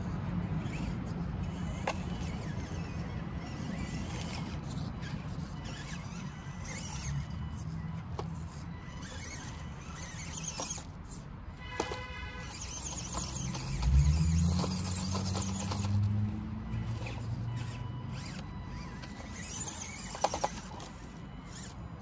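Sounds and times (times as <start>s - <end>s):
small electric motor and gears: 0.0s - 22.0s.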